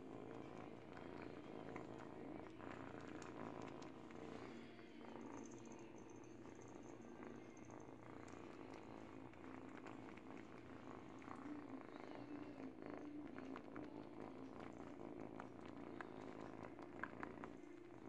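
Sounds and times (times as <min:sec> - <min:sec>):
kitten purring: 0:00.0 - 0:18.0.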